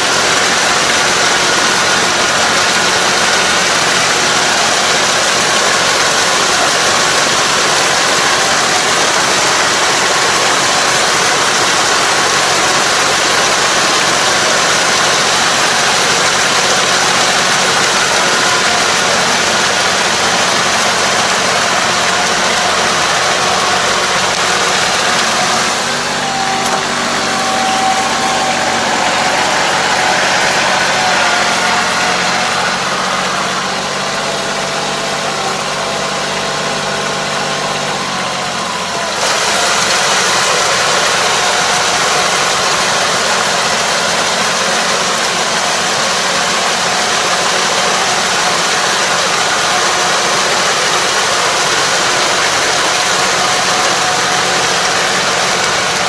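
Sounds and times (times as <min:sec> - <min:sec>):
harrow churning muddy water: 0:00.0 - 0:56.0
tractor diesel engine running: 0:00.0 - 0:56.0.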